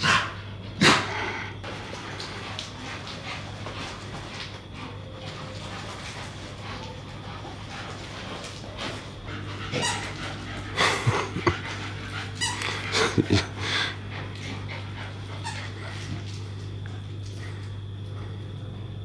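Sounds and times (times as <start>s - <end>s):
dogs scuffling: 1.6s - 18.4s.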